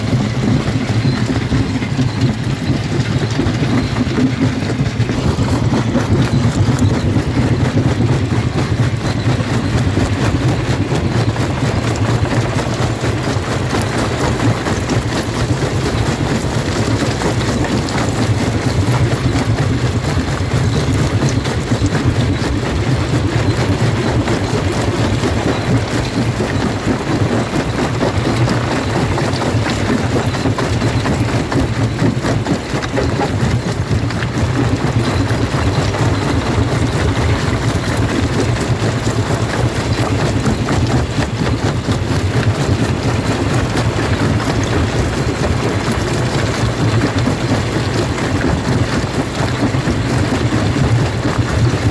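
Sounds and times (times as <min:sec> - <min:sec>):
gritty rattle of crushing stone: 0:00.0 - 0:51.9
rock crusher machine drone: 0:00.0 - 0:51.9.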